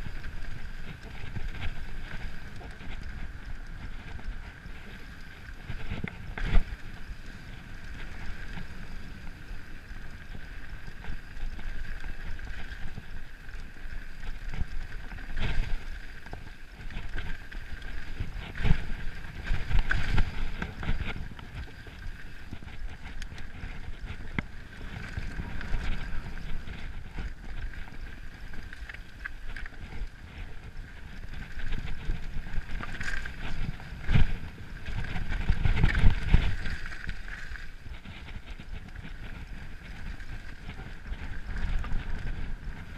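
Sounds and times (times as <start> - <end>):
bike rattling: 0.0 - 42.9
bike tyres rolling over dirt: 0.0 - 42.9.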